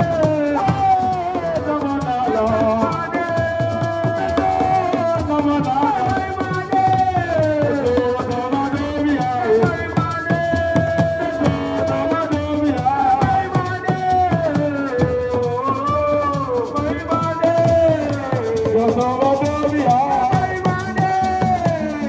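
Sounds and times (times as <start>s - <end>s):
hand drum strokes: 0.0s - 22.0s
shaker: 0.0s - 22.0s.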